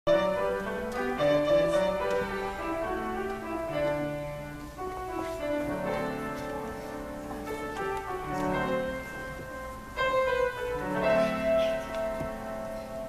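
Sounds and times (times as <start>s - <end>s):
solo piano piece: 0.1s - 13.0s.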